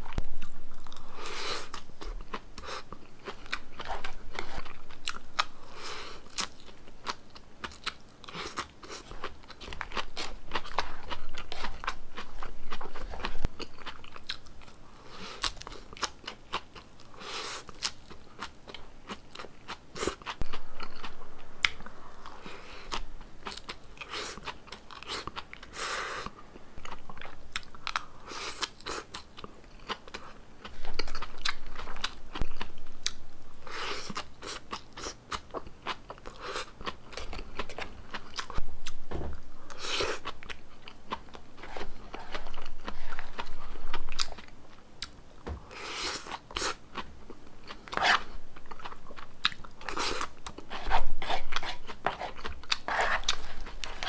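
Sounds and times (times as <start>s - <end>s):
chewing crisp lettuce: 0.1s - 39.0s, 39.7s - 54.0s.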